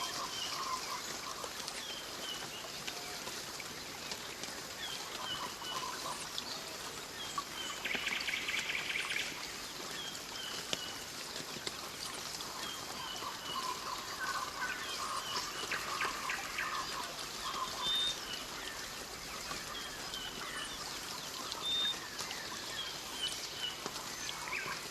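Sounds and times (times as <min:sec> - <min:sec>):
insects or running water hiss: 0:00.0 - 0:24.9.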